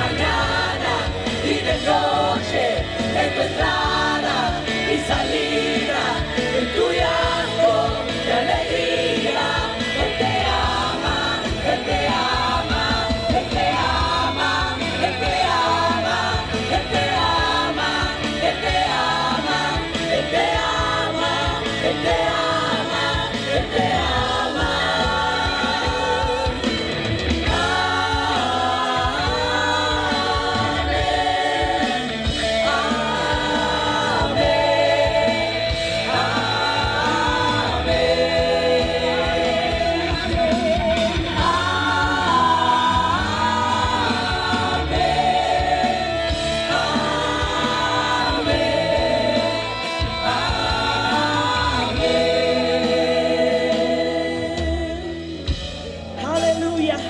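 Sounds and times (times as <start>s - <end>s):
group of voices singing: 0.0s - 56.6s.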